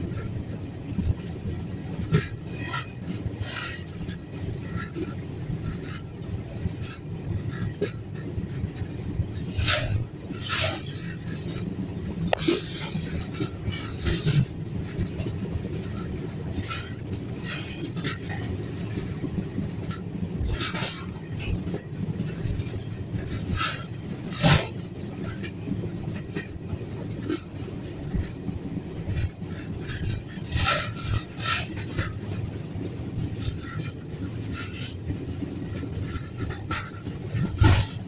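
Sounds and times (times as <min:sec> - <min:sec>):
train rumbling: 0:00.0 - 0:38.0
wheels clanking over rail joints: 0:00.0 - 0:38.0.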